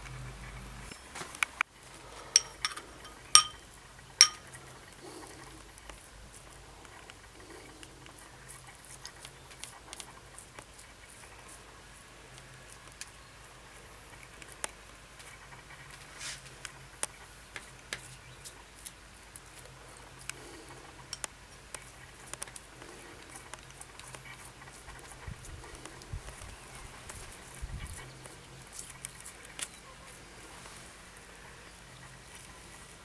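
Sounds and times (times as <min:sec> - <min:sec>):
charcoal crackling and popping: 0:00.0 - 0:33.0
faint hiss: 0:00.0 - 0:33.0
low steady hum: 0:00.0 - 0:33.0.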